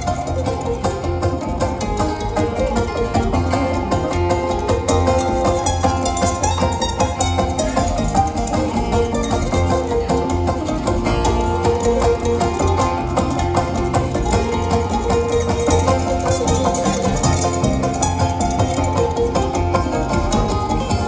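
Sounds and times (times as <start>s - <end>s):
banjo picking: 0.0s - 21.0s
bluegrass band playing: 0.0s - 21.0s
mandolin picking: 0.0s - 21.0s.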